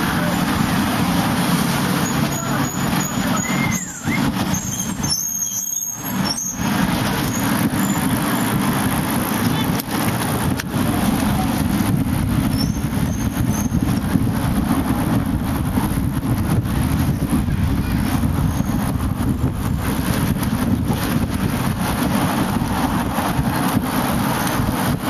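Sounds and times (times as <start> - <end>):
wind buffeting microphone: 0.0 - 5.2, 6.0 - 25.0
street traffic: 0.0 - 25.0.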